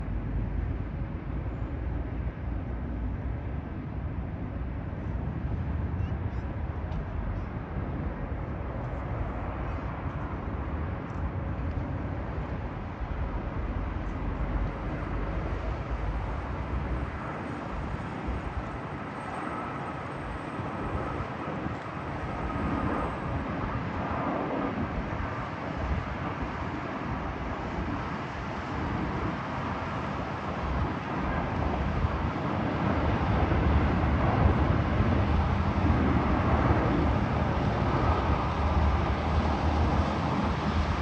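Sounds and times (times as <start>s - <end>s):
jet engine rush: 2.8s - 41.0s.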